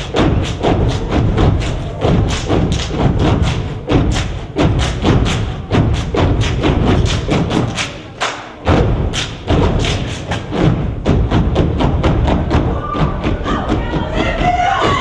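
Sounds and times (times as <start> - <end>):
people stomping and clapping: 0.0 - 15.0.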